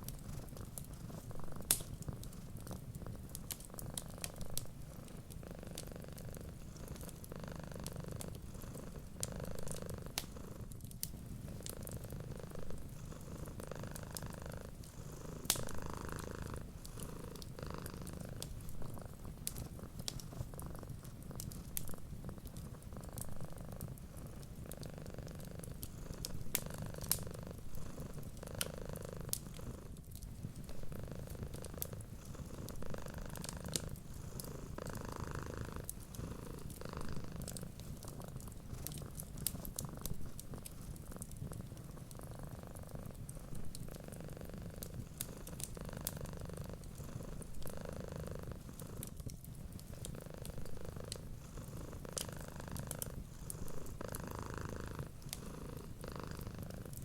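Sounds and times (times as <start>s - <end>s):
cat purring: 0.0s - 57.0s
wood fire crackling and popping: 0.0s - 57.0s.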